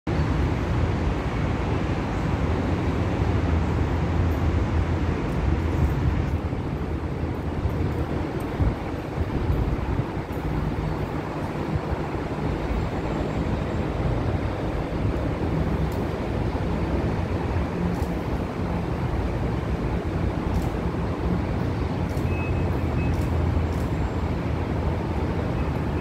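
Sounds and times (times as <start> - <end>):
distant city traffic rumble: 0.1 - 26.0.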